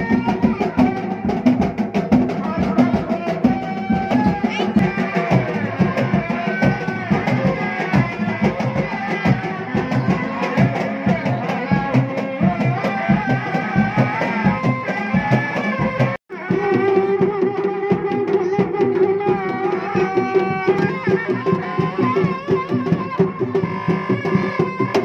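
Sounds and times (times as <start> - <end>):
driving drum beat: 0.0 - 25.0.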